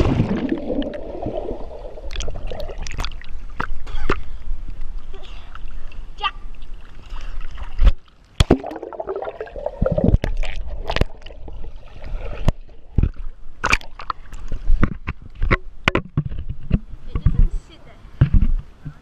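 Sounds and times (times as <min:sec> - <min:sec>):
water sloshing and splashing: 0:00.0 - 0:15.6.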